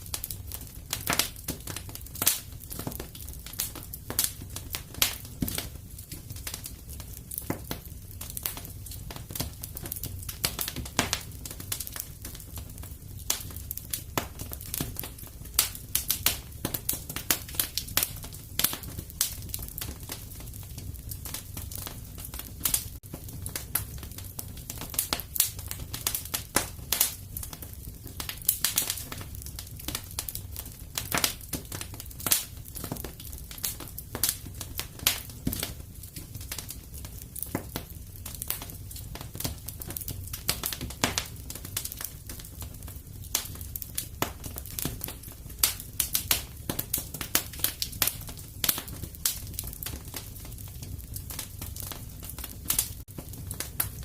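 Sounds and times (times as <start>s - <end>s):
fire crackling in a fireplace: 0.0s - 54.0s.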